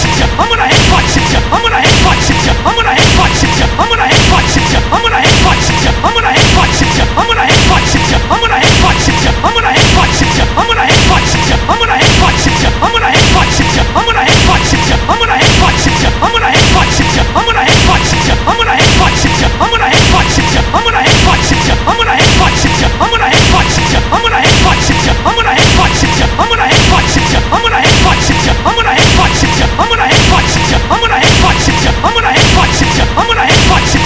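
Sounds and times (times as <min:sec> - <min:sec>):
music: 0:00.0 - 0:34.0.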